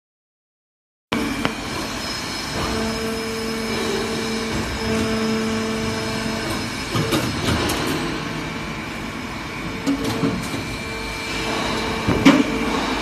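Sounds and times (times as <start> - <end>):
machine droning: 1.1 - 13.0.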